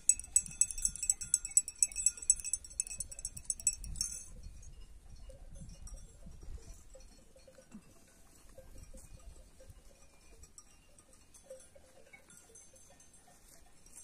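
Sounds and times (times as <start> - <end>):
sheep bells clinking: 0.0 - 14.0.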